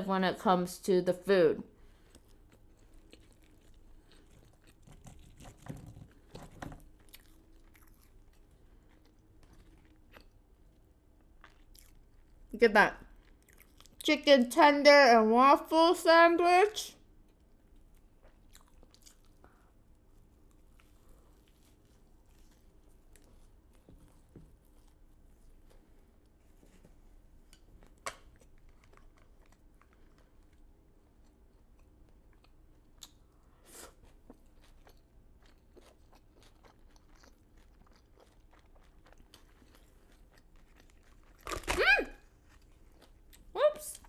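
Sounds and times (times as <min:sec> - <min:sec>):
person chewing crunchy food: 0:01.8 - 0:12.5, 0:13.1 - 0:14.0, 0:17.2 - 0:26.2, 0:27.6 - 0:43.5.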